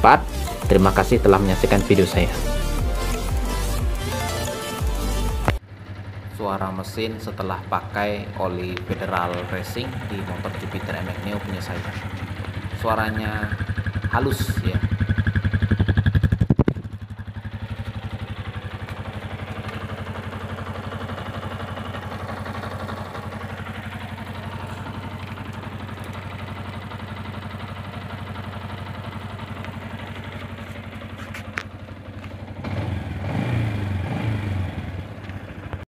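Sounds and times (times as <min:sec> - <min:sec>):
motorcycle engine idling: 0:00.0 - 0:35.8.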